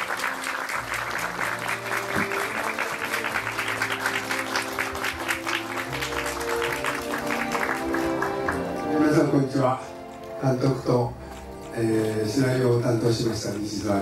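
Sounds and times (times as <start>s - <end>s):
audience applauding: 0.0s - 14.0s
music with held notes: 0.0s - 14.0s.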